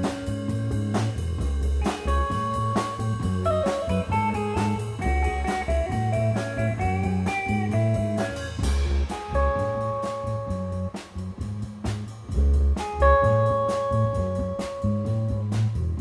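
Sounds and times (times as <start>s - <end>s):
drum kit steady beat: 0.0s - 16.0s
electric bass guitar: 0.0s - 16.0s
electric guitar lead melody: 1.8s - 11.4s, 12.6s - 16.0s.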